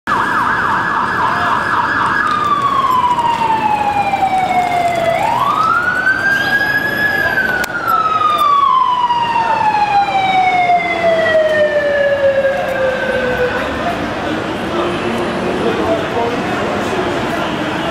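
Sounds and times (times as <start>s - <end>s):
emergency vehicle siren: 0.1s - 14.8s
street noise: 0.1s - 17.9s.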